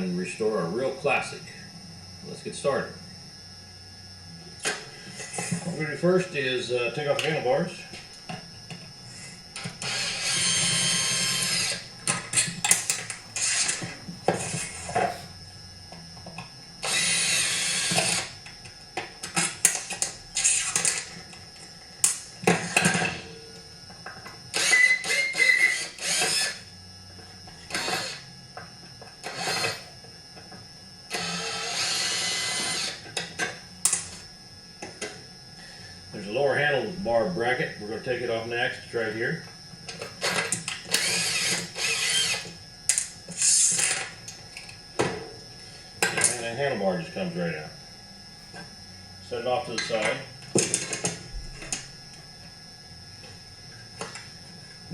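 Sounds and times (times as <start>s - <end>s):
power driver running: 0.0s - 54.9s.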